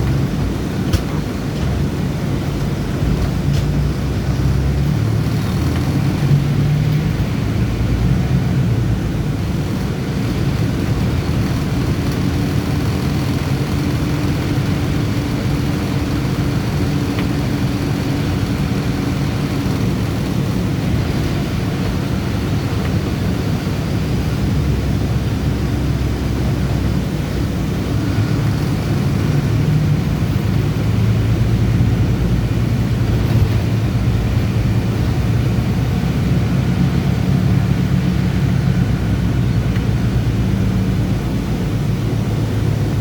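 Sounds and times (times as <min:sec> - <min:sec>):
bus engine rumbling: 0:00.0 - 0:43.0.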